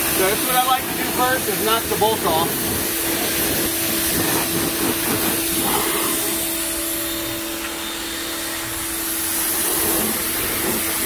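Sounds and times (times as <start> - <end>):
pressure washer humming: 0.0 - 11.0
water jet hissing: 0.0 - 11.0.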